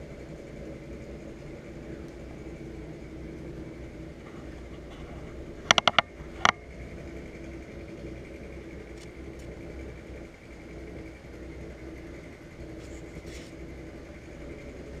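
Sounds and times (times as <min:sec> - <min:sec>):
faint constant whine: 0:00.0 - 0:15.0
machine hum: 0:00.0 - 0:15.0.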